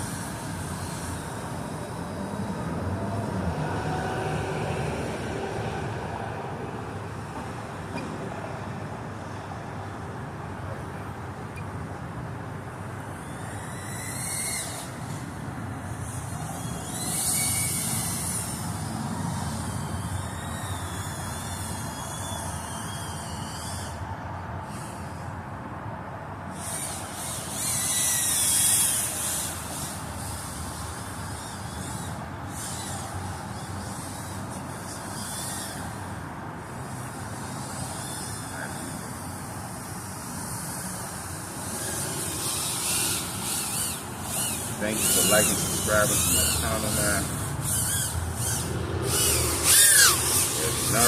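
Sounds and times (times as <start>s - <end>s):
drone motors whining: 0.0s - 25.7s, 26.4s - 51.0s.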